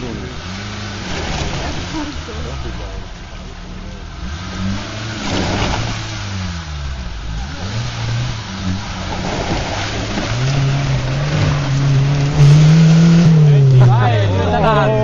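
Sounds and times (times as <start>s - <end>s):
engine revving under load: 0.0s - 15.0s
tyres churning mud and water: 0.0s - 15.0s.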